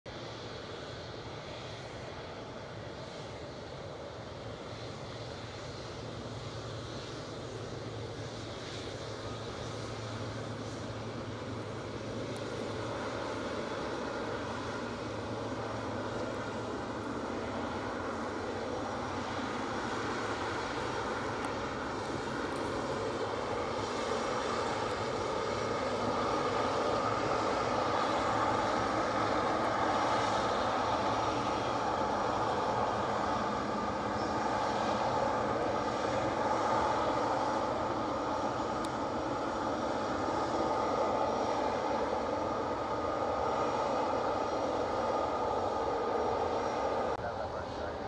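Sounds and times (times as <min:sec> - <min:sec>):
jet engines rumbling: 0:00.1 - 0:48.0.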